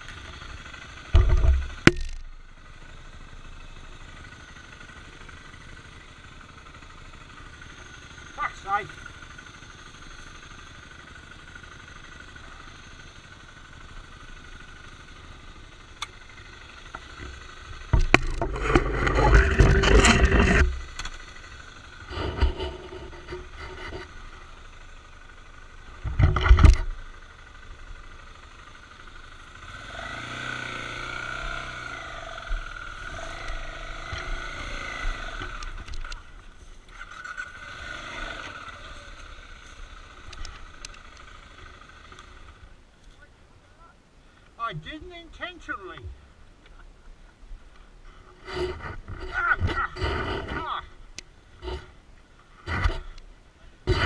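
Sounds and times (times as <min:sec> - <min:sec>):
motorcycle engine revving: 0:00.0 - 0:42.8, 0:48.2 - 0:53.2.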